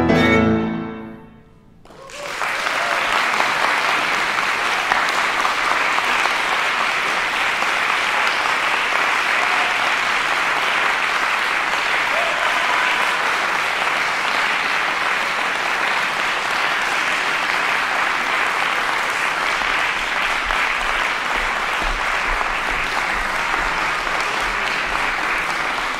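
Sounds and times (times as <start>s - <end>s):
audience applauding: 1.8s - 25.9s.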